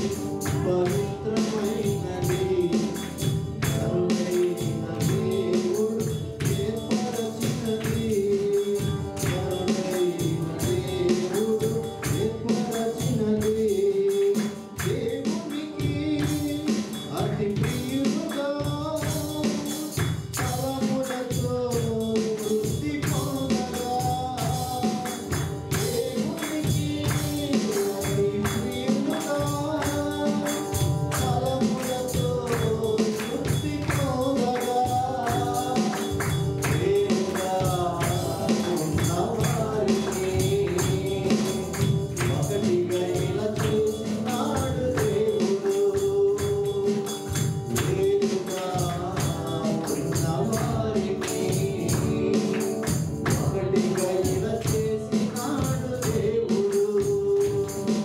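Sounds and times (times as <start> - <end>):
rhythmic percussion beat: 0.0 - 58.0
voices singing: 0.0 - 58.0.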